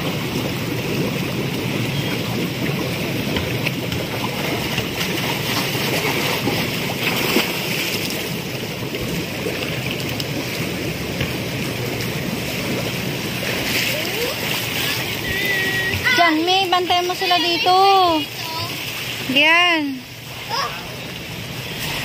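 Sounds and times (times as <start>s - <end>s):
churning pool water: 0.0s - 22.0s.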